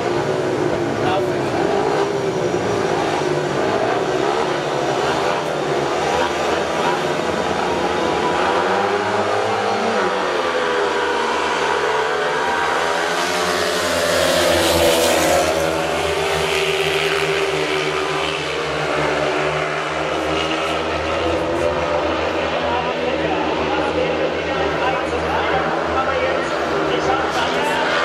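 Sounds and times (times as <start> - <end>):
motorcycles racing: 0.0 - 28.0.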